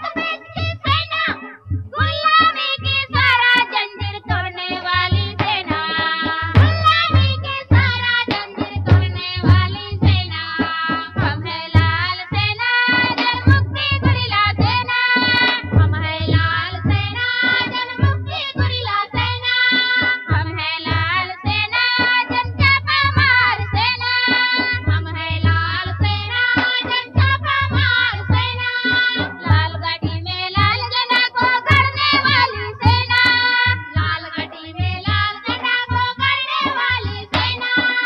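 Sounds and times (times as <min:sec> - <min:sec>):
music with steady beat: 0:00.0 - 0:38.0
people singing: 0:02.0 - 0:38.0.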